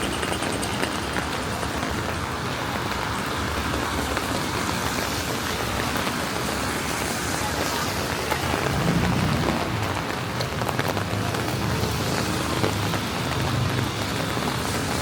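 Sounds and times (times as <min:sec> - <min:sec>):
rain falling on street: 0:00.0 - 0:15.0
traffic on wet roads: 0:00.0 - 0:15.0.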